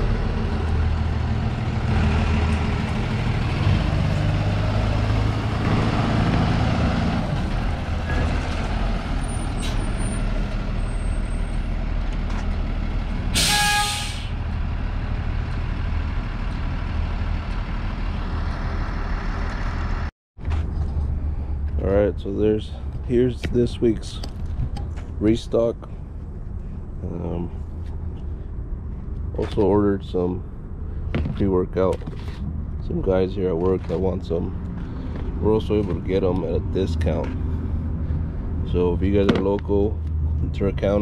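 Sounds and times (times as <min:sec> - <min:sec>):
large vehicle engine running: 0:00.0 - 0:13.4, 0:14.2 - 0:41.0
road noise: 0:00.0 - 0:41.0.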